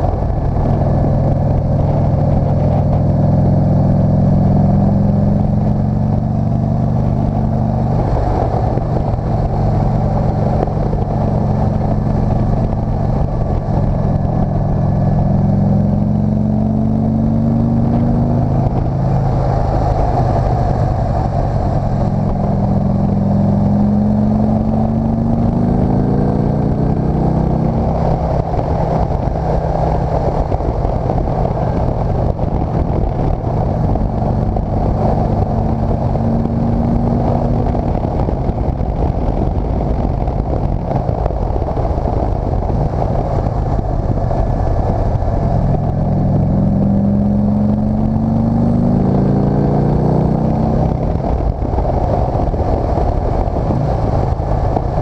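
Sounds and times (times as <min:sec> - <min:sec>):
motorcycle engine accelerating: 0:00.0 - 0:55.0
steady wind noise: 0:00.0 - 0:55.0.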